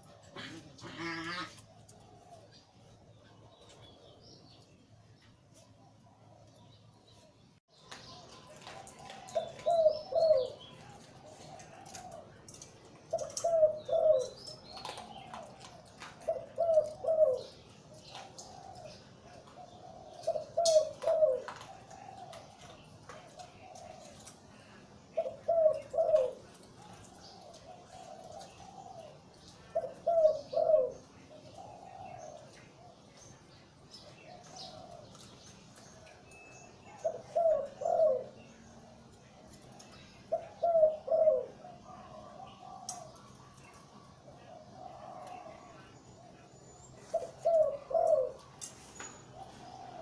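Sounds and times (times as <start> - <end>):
dove cooing: 0.0 - 3.7, 8.1 - 33.3, 34.0 - 48.7, 49.3 - 50.0
small birds chirping faintly: 0.0 - 50.0.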